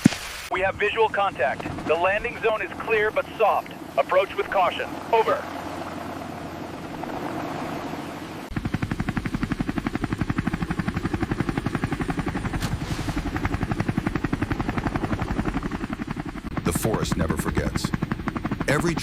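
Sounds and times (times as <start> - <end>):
helicopter rotor chopping: 0.5 - 19.0.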